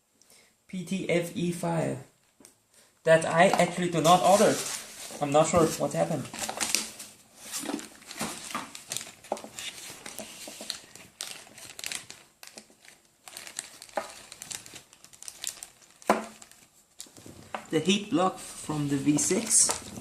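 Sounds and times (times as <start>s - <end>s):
plastic packaging crinkling: 3.6s - 20.0s.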